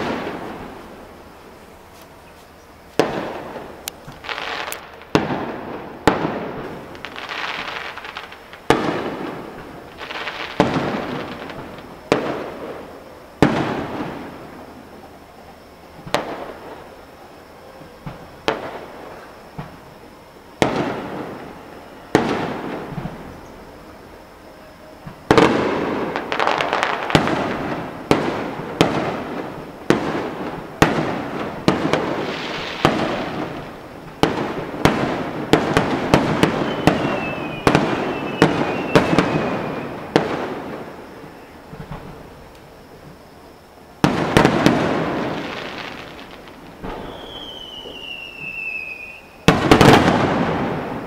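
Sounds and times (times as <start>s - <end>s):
fireworks crackle: 0.0s - 24.2s, 24.9s - 51.0s
fireworks bursting with bangs: 0.0s - 51.0s.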